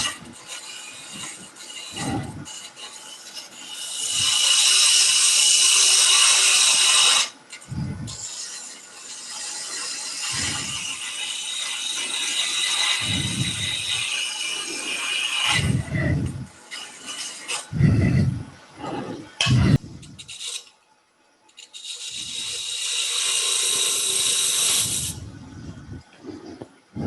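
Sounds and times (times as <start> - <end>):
lathe tool scraping wood: 0.0 - 20.7, 21.6 - 27.0.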